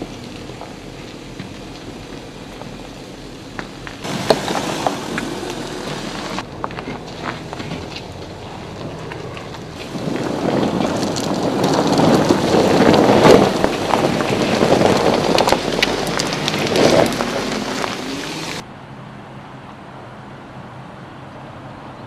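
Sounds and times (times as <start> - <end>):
tyres crunching over gravel: 0.0 - 18.6
steady vehicle sound: 0.0 - 22.0.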